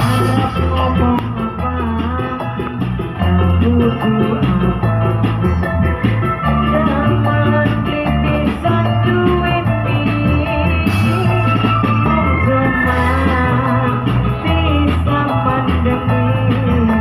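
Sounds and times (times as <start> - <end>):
loud music with beat and bass: 0.0 - 17.0.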